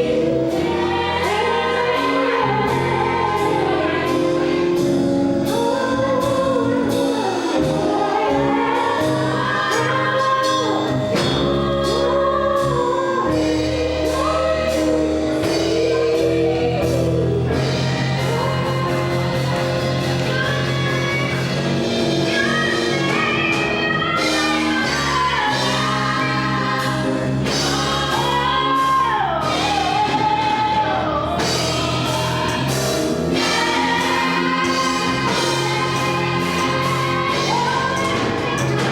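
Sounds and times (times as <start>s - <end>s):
gospel singing: 0.0s - 38.9s
instrumental accompaniment with bass: 0.0s - 38.9s.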